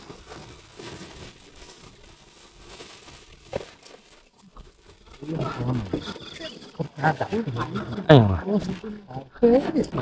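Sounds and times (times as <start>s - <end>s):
low crinkling rustle: 0.0s - 9.8s.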